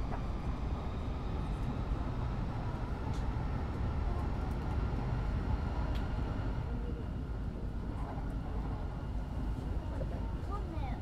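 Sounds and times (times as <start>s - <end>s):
train rumble inside cabin: 0.0s - 11.0s.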